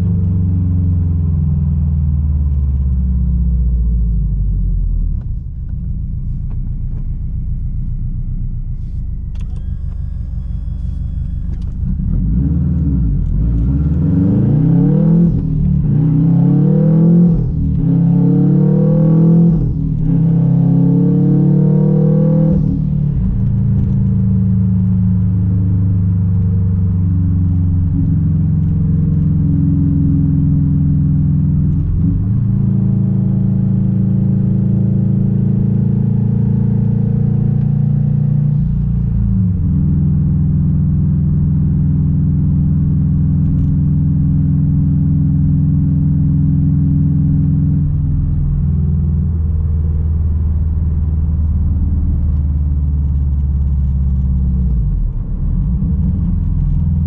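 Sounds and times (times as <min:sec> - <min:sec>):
engine and exhaust rumbling: 0:00.0 - 0:57.0.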